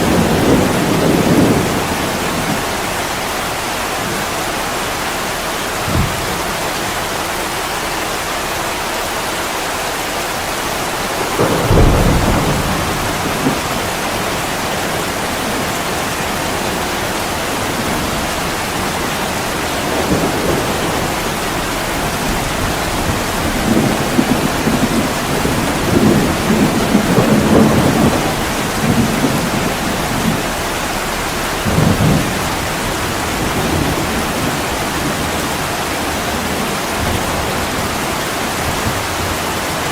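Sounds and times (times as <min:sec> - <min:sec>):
thunder rolling: 0:00.0 - 0:07.6, 0:10.3 - 0:39.9
heavy rain on a window: 0:00.0 - 0:39.9.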